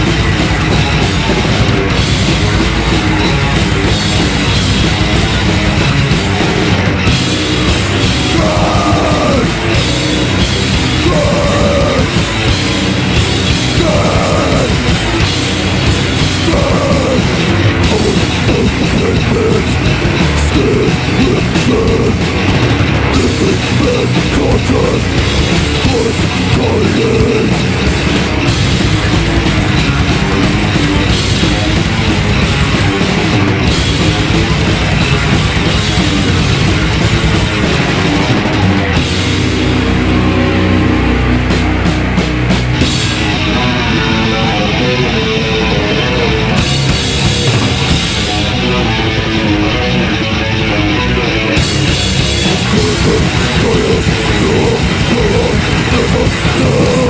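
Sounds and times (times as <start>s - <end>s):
heavy metal band playing live: 0.0s - 57.0s.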